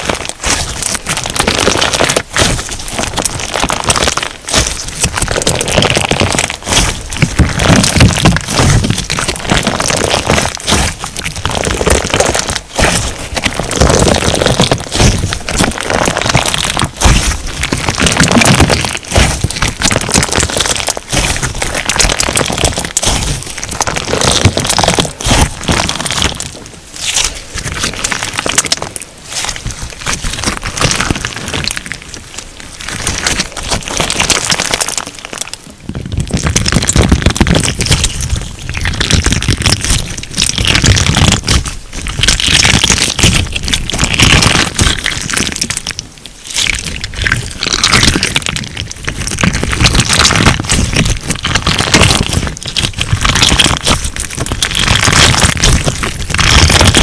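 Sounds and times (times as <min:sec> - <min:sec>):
slime crackling and popping: 0:00.0 - 0:57.0.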